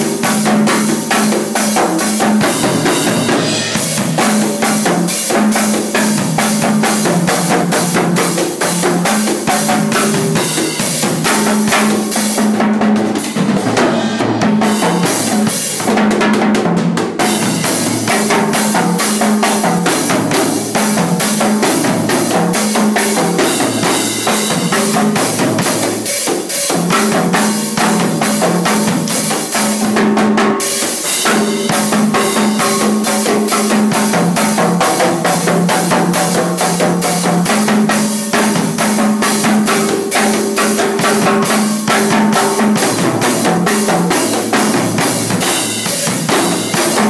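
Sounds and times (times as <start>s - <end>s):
timbales played fast: 0.0s - 47.0s.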